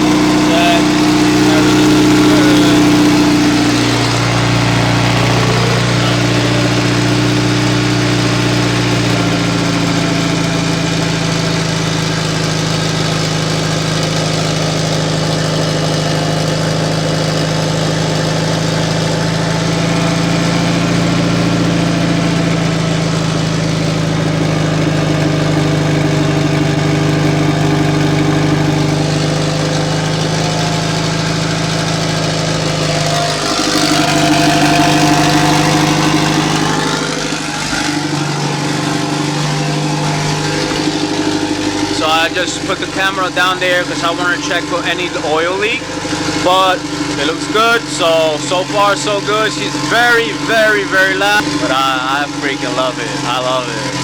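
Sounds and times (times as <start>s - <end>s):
car engine idling loudly: 0.0s - 54.0s.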